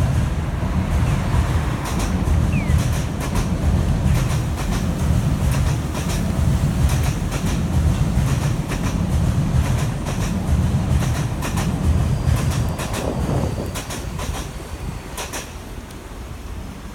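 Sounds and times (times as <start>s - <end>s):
wheels clicking over rail joints: 0.0s - 16.1s
electric train rumbling past: 0.0s - 16.9s.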